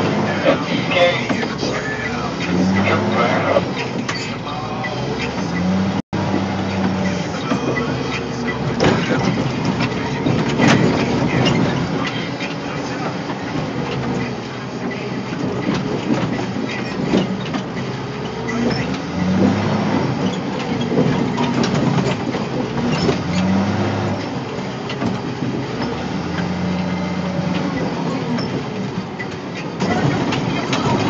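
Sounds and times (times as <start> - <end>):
diesel engine running: 0.0 - 31.0
machine rattling and clanking: 0.0 - 31.0.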